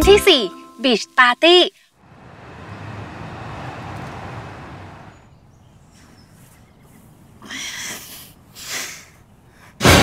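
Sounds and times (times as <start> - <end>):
distant city traffic hum: 2.0 - 10.0.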